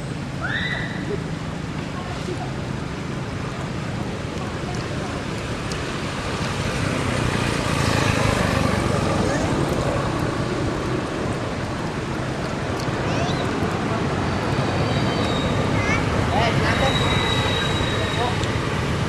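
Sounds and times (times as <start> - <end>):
distant traffic: 0.0 - 19.0.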